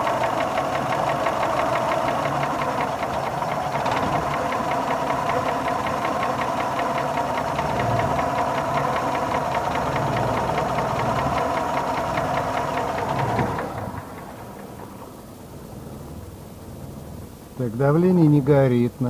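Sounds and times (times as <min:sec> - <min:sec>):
rapid engine knocking: 0:00.0 - 0:16.2
engine idling: 0:00.0 - 0:19.0.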